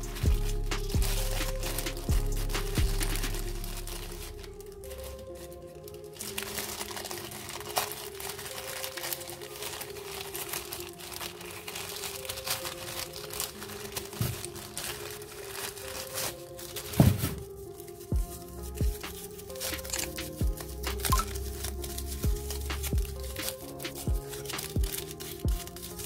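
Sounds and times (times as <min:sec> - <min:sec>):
packaging crinkling and tearing: 0:00.0 - 0:26.0
quiet background music: 0:00.0 - 0:26.0.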